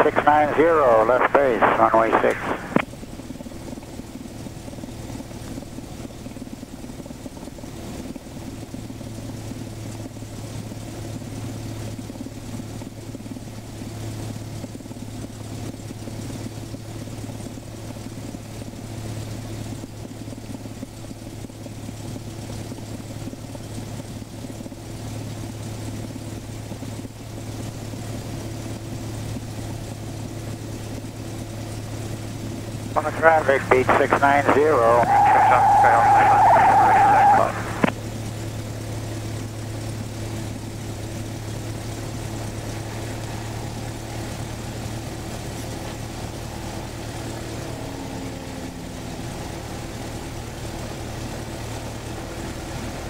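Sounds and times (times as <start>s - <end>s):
light aircraft engine drone: 0.0s - 53.0s.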